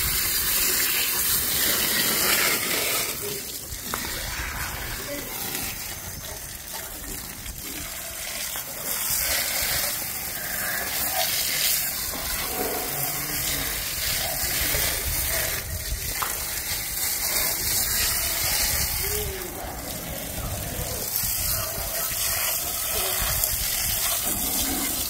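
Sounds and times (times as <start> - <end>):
water spraying on engine: 0.0 - 25.0.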